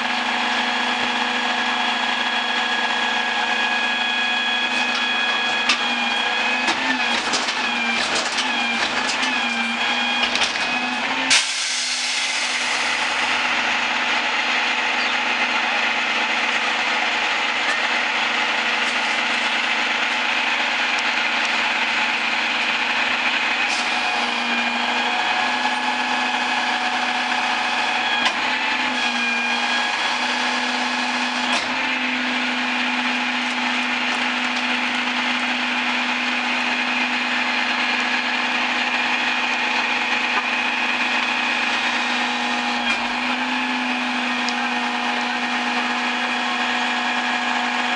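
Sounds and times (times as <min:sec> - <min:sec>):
garbage truck mechanical whine: 0:00.0 - 0:47.9.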